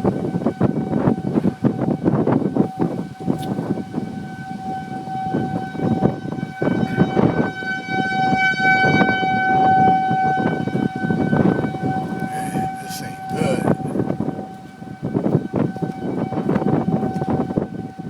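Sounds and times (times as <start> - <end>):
warning siren steady tone: 0.0 - 18.0
wind gusting on microphone: 0.0 - 18.0.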